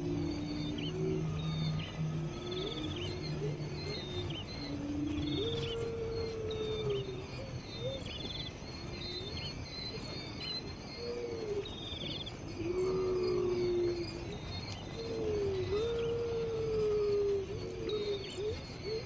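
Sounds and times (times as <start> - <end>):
birds chirping and trilling: 0.0 - 19.0
insect drone: 0.0 - 19.0.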